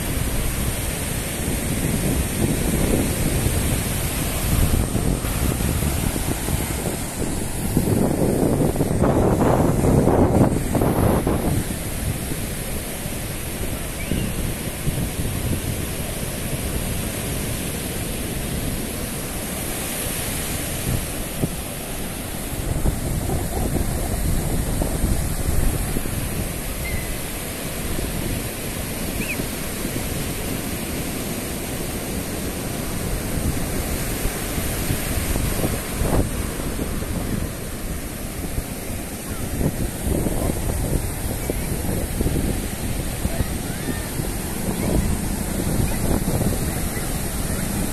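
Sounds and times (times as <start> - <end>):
surf breaking on beach: 0.0 - 47.9
wind buffeting microphone: 0.0 - 47.9.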